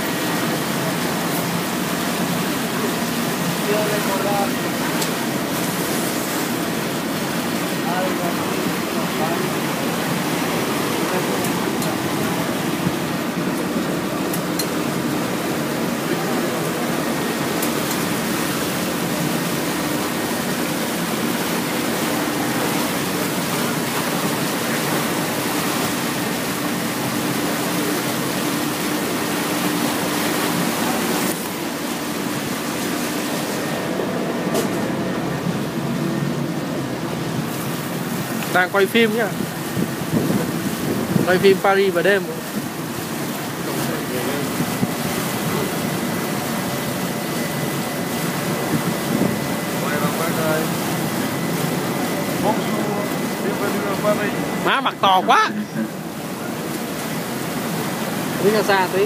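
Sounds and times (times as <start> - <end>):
boat engine humming: 0.0 - 59.0
water rushing in boat wake: 0.0 - 59.0.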